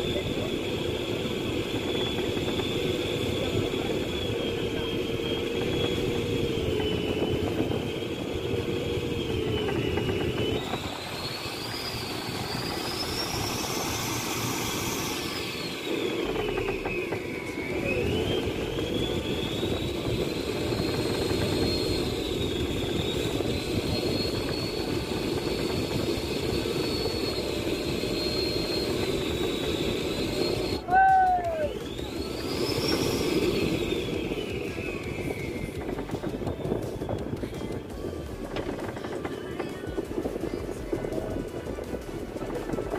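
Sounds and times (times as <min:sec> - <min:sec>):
boat engine whine: 0:00.0 - 0:42.9.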